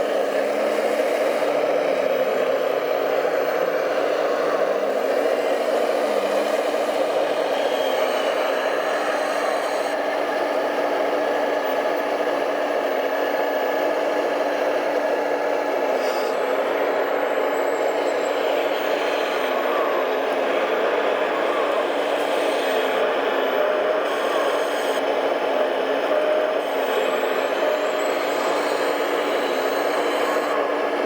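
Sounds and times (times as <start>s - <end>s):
model truck motor whirring: 0.0s - 31.0s.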